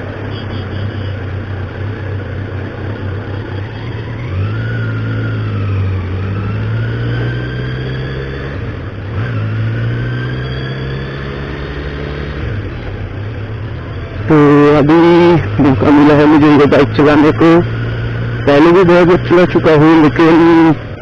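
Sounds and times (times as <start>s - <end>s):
motorcycle engine accelerating: 1.6s - 20.8s.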